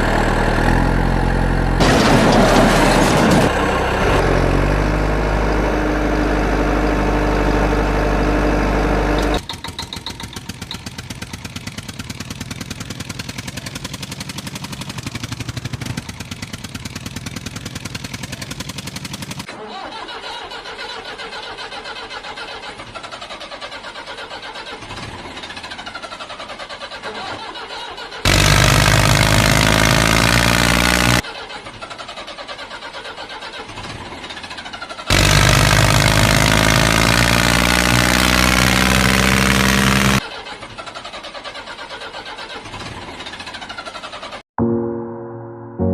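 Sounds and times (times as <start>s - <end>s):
engine running: 0.0s - 31.4s, 32.7s - 41.0s.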